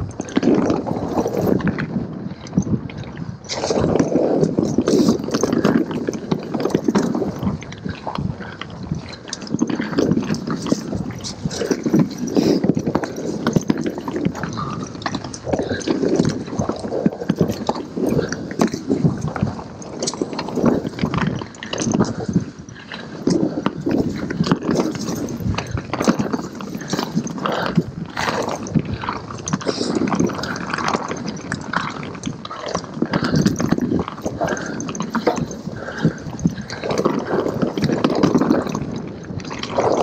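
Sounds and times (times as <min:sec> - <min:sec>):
bike rattling over bumps: 0:00.0 - 0:40.0
tyres crunching over dirt: 0:00.1 - 0:40.0.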